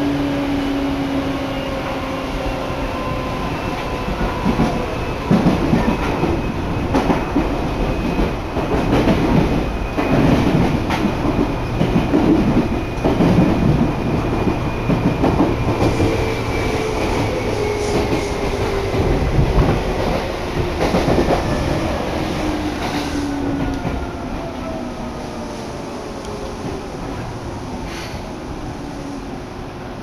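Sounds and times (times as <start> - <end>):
train ride rumbling: 0.0 - 30.0.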